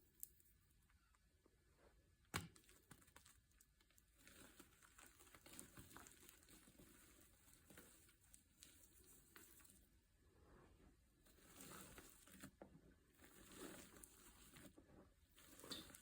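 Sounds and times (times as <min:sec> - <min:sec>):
faint crinkling and rustling: 0:00.0 - 0:16.0.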